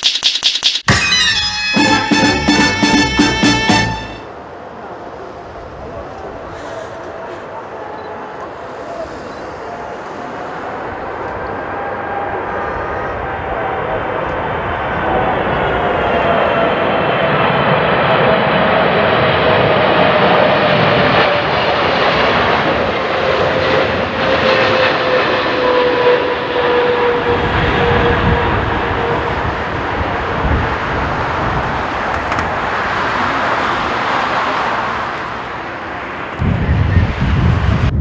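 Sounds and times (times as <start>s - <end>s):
jet engine roar with falling whine: 4.3s - 38.0s.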